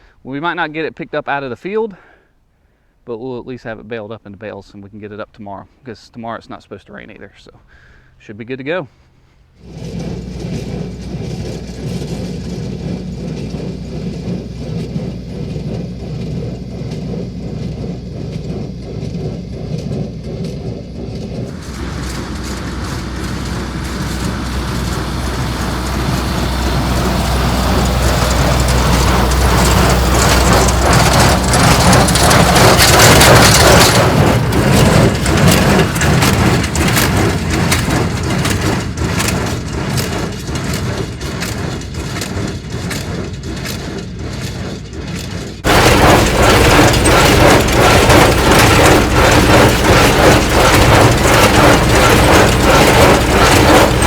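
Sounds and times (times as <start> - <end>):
tractor running: 9.1 - 54.0
hay baler plunger knocking: 9.6 - 54.0.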